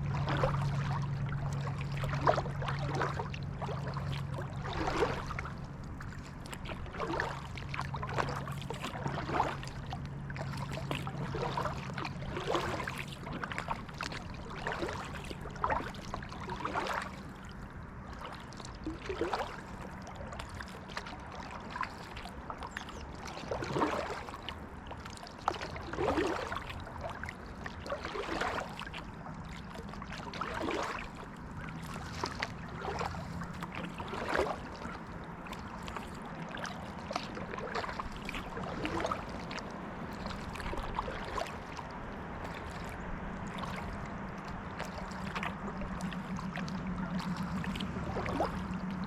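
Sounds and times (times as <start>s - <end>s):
low steady hum: 0.0s - 49.0s
paddle splashing in water: 0.0s - 49.0s.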